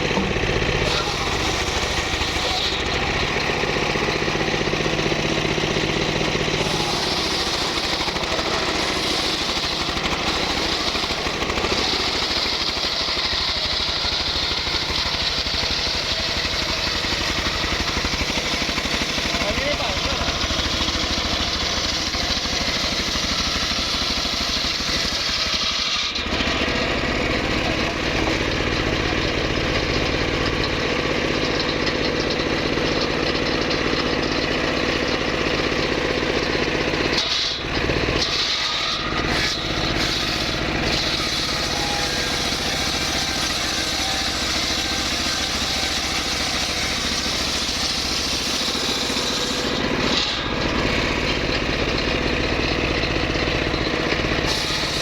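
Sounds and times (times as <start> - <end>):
wood saw engine running: 0.0 - 55.0.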